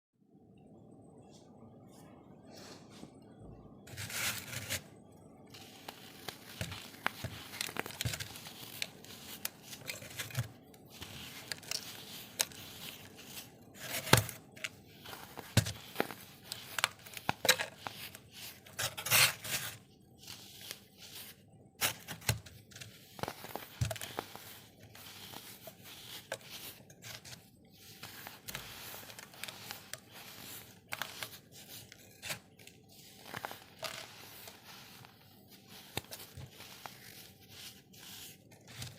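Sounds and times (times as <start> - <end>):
baking soda chunks crunching: 5.5 - 38.9.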